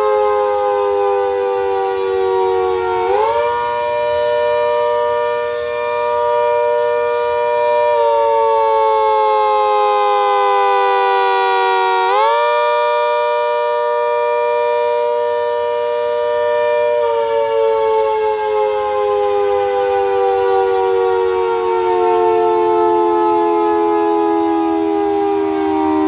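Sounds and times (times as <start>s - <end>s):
rotating siren wailing: 0.0s - 26.0s.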